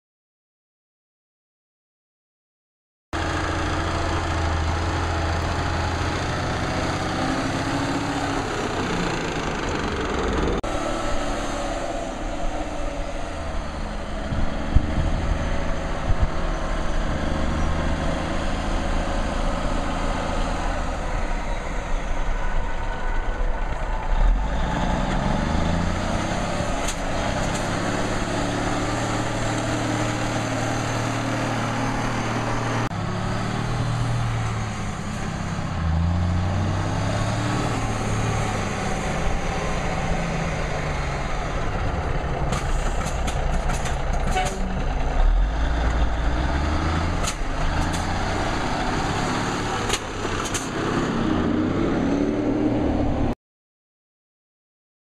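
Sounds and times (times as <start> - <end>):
truck diesel engine accelerating: 3.2 - 53.4.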